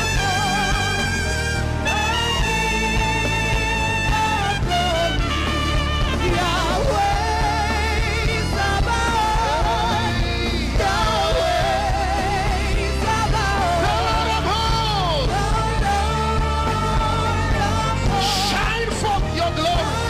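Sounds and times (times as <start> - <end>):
live worship music: 0.0 - 20.0.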